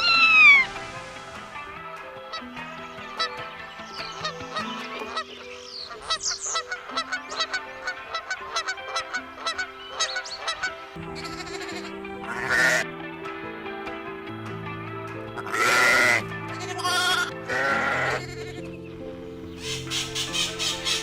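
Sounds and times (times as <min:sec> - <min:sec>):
ducks quacking: 0:00.0 - 0:12.9, 0:15.4 - 0:18.8, 0:19.5 - 0:21.0
background music: 0:00.0 - 0:21.0.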